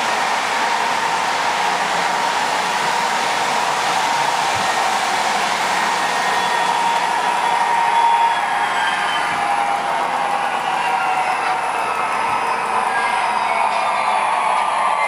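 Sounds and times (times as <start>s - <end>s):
model locomotive rushing noise: 0.0s - 15.0s.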